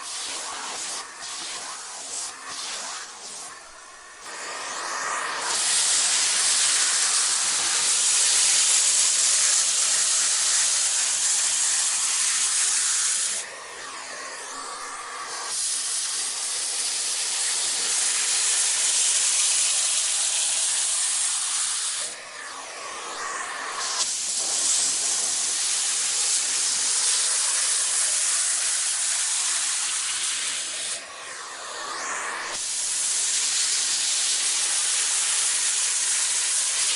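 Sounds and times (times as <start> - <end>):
vacuum cleaner suction hiss: 0.0 - 36.9.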